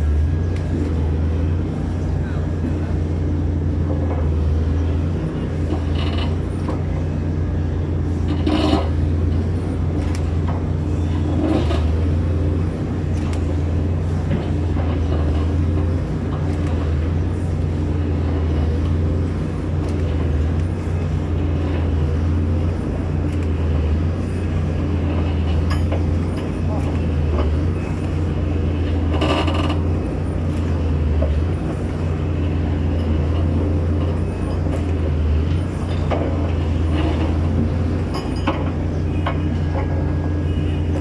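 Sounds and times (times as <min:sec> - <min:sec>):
hydraulic machinery drone: 0:00.0 - 0:41.0.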